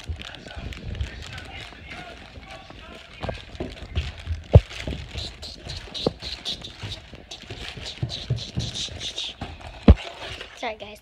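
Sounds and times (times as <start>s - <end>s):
footsteps on stairs: 0.0s - 10.2s
rustling near microphone: 0.0s - 11.0s.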